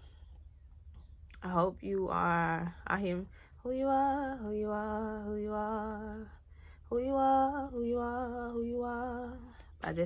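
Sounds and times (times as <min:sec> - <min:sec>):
woman singing: 0:01.4 - 0:10.0.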